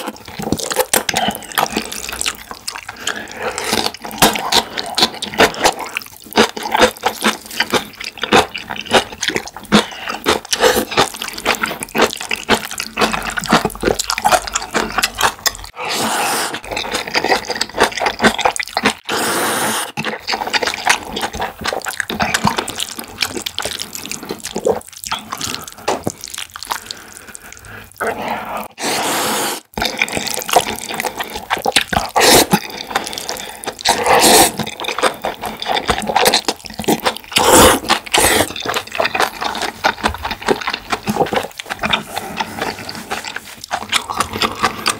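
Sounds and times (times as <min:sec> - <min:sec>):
wet chewing and mouth clicks: 0:00.0 - 0:15.8, 0:16.5 - 0:28.8, 0:29.6 - 0:44.9
slurping noodles: 0:00.0 - 0:44.9.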